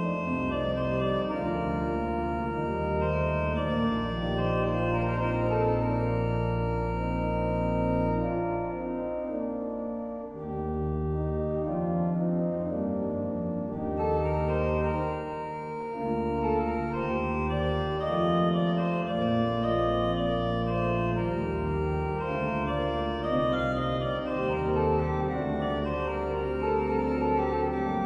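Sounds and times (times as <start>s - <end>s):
pipe organ chords: 0.0s - 28.0s.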